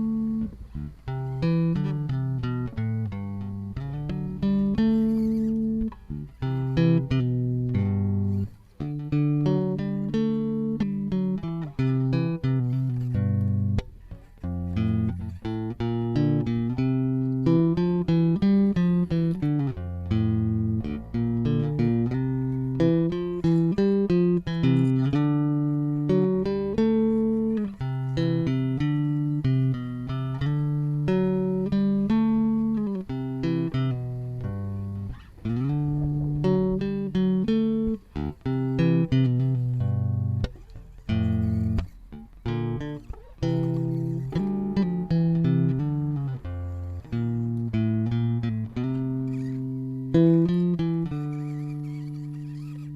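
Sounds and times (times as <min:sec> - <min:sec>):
plucked guitar and bass music: 0:00.0 - 0:52.9.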